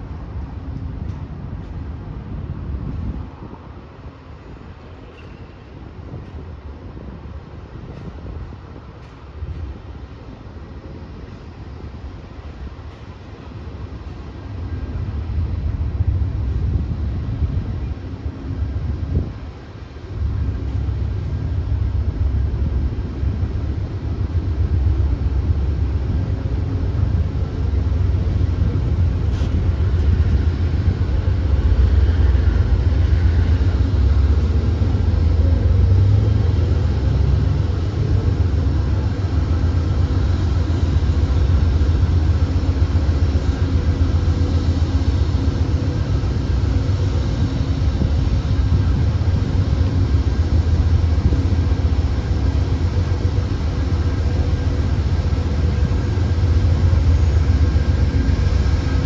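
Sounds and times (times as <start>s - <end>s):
faint steady hum: 0.0s - 59.0s
passenger train rolling past: 0.0s - 59.0s.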